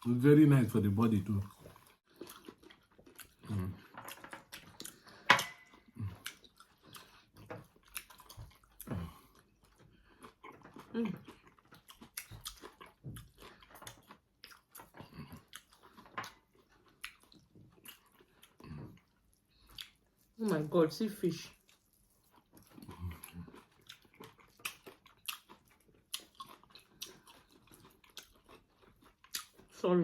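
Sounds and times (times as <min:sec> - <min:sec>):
people chewing: 0:00.0 - 0:20.8, 0:21.4 - 0:29.8.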